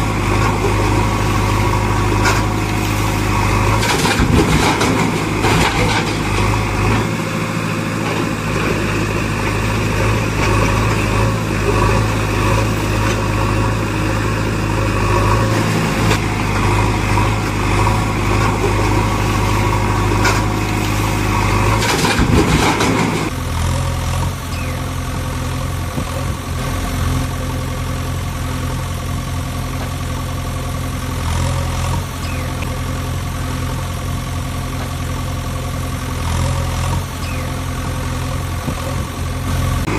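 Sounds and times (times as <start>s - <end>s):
engine idling sound effect: 0.0s - 39.9s.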